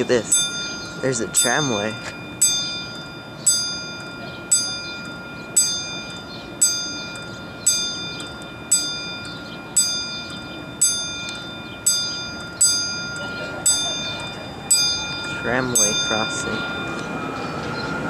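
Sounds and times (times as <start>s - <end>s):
crossing signal bell ringing: 0.0s - 18.0s.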